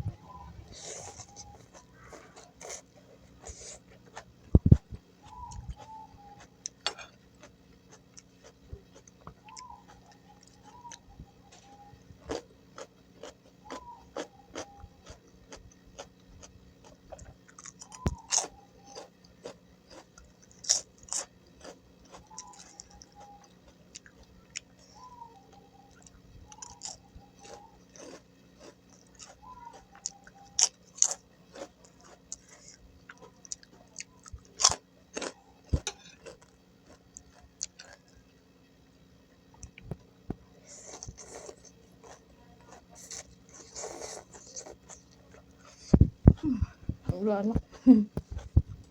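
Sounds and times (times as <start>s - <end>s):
chewing crunchy food: 0.3s - 48.9s.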